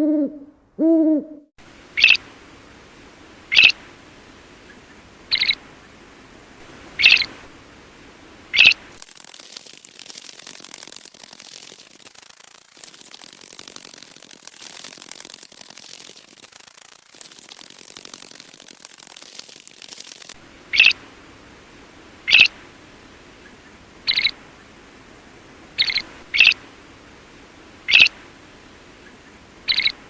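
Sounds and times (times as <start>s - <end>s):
steady hiss with crackling: 1.6s - 30.0s.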